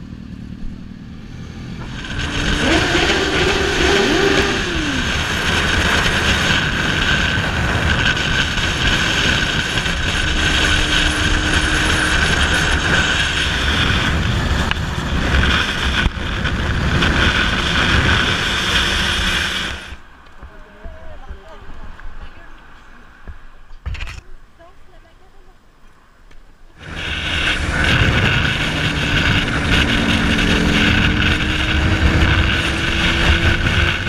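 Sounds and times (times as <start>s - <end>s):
motorcycle engine running: 0.0s - 22.4s, 26.8s - 34.0s
rushing wind noise: 1.2s - 24.2s, 26.8s - 34.0s.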